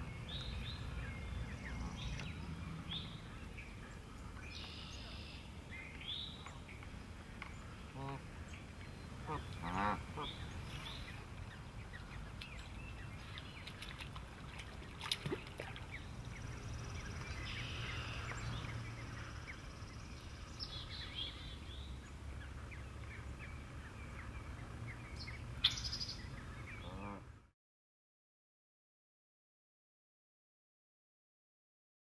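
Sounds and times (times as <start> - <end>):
birds chirping: 0.0 - 27.4
low outdoor rumble: 0.0 - 27.5.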